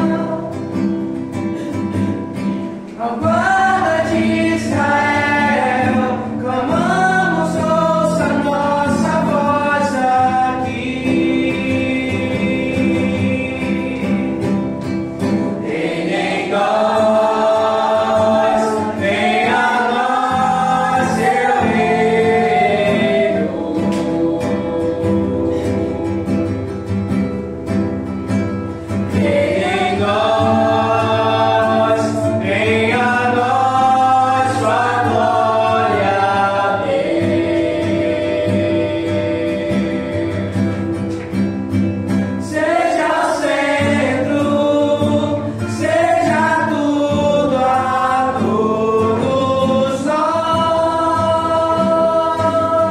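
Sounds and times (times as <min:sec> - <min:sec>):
acoustic guitar: 0:00.0 - 0:52.9
voices singing together: 0:00.0 - 0:52.9.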